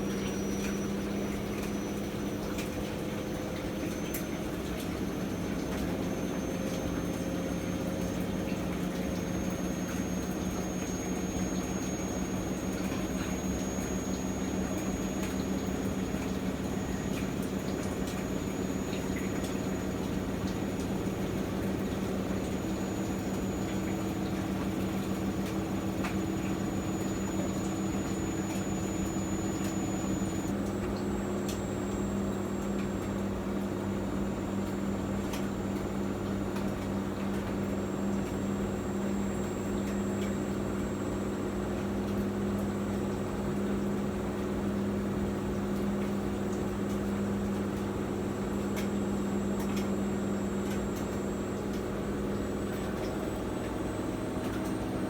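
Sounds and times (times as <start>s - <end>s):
washing machine humming: 0.0s - 55.0s
water moving inside machine: 0.0s - 55.0s.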